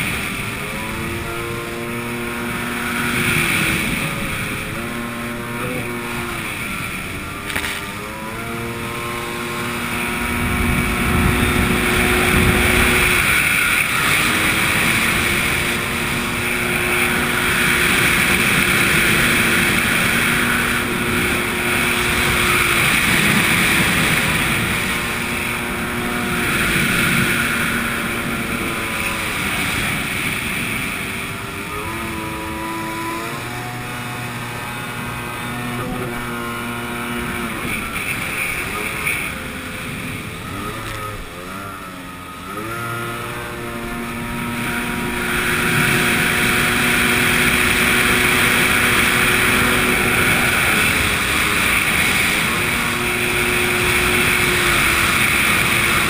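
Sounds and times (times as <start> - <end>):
jet ski engine revving: 0.0 - 56.0
wind rush: 0.0 - 56.0.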